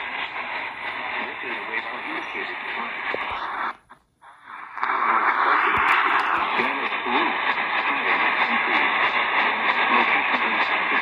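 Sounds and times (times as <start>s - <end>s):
person reading weather alert on radio: 0.0s - 11.0s
radio static hiss: 0.0s - 11.0s.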